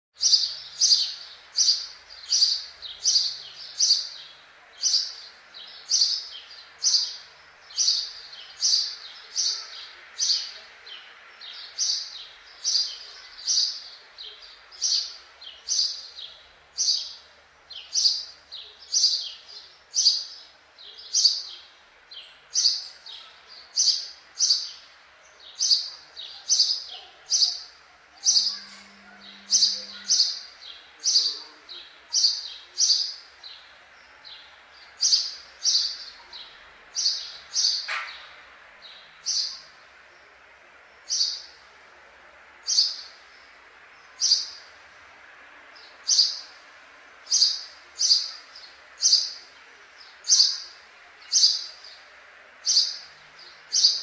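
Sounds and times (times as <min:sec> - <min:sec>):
sparrow chirping: 0:00.2 - 0:41.8, 0:42.6 - 0:44.7, 0:45.8 - 0:54.0.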